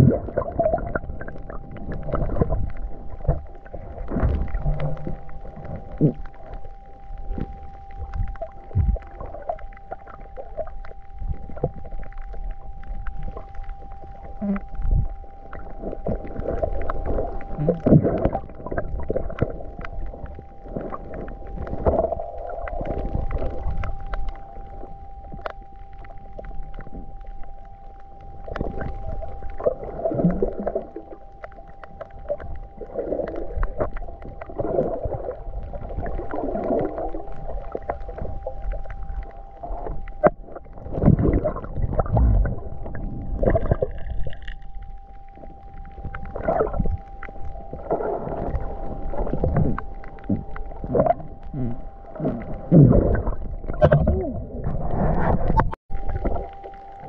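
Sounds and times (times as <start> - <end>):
faint steady tone: 0.0 - 57.0
underwater sloshing and bubbling: 0.0 - 57.0.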